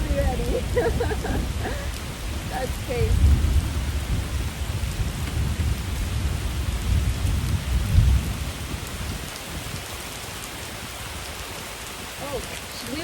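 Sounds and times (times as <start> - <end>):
thunder rumbling: 0.0 - 11.4
heavy rain: 0.0 - 13.0.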